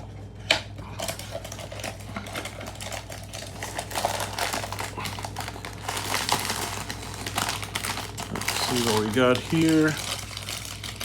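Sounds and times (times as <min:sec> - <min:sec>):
packaging crinkling and clicking: 0:00.4 - 0:11.0.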